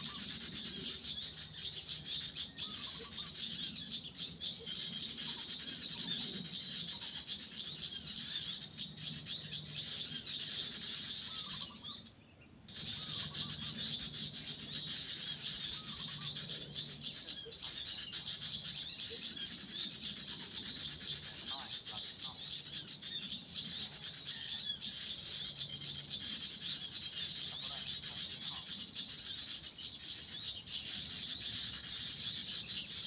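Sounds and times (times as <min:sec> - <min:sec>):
high downward-sliding bird calls: 0:00.0 - 0:33.0
small birds chirping: 0:00.0 - 0:33.0.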